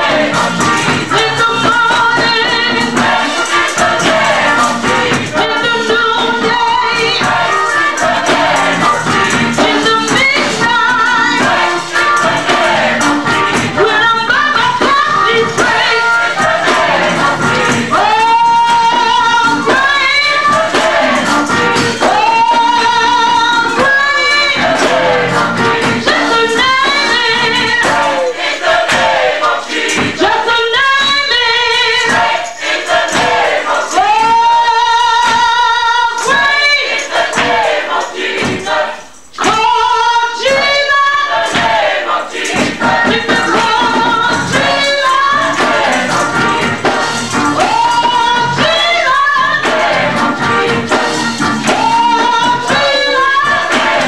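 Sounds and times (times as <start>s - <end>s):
steady beat: 0.0s - 30.5s, 32.0s - 35.5s, 36.3s - 39.7s, 41.3s - 54.0s
gospel choir singing: 0.0s - 54.0s.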